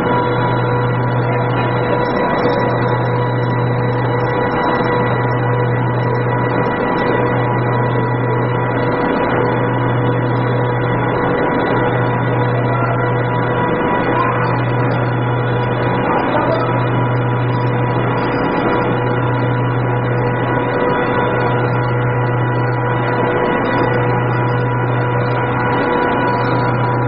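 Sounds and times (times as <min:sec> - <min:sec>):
machinery low hum: 0:00.0 - 0:27.0
machinery whine: 0:00.0 - 0:27.0.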